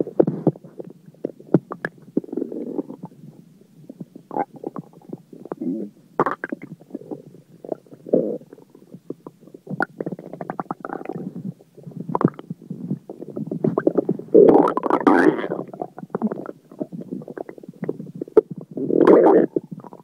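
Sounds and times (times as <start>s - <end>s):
stomach gurgling: 0.0s - 20.0s.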